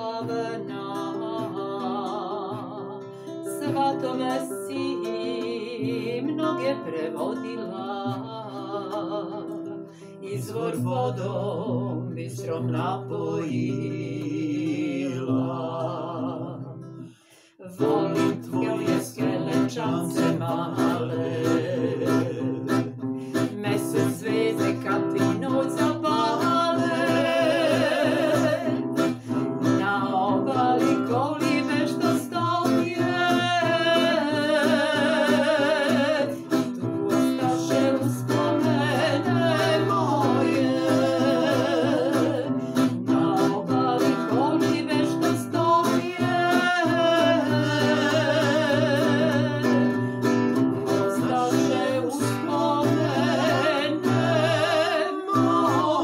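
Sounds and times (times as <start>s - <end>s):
acoustic guitar strumming: 0.0s - 56.0s
woman and man singing: 0.0s - 56.0s.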